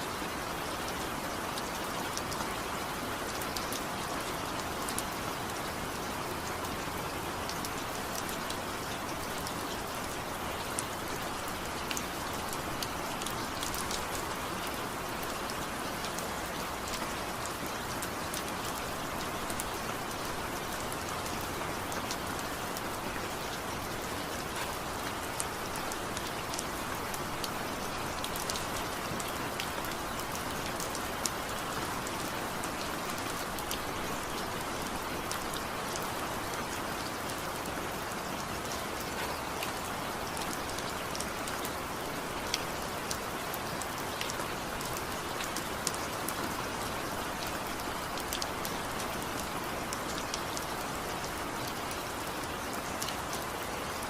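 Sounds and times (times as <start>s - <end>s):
raindrops ticking on a surface: 0.0s - 54.0s.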